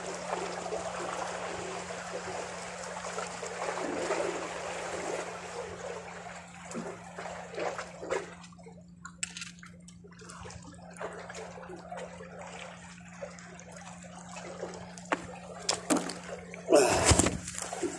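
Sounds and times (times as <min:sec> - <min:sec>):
water splashes and drips: 0:00.0 - 0:17.9.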